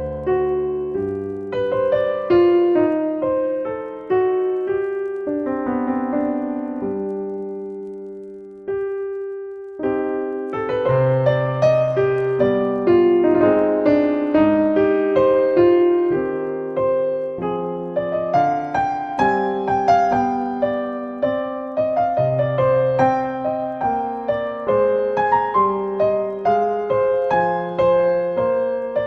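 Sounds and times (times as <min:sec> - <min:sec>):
solo piano melody: 0:00.0 - 0:29.0.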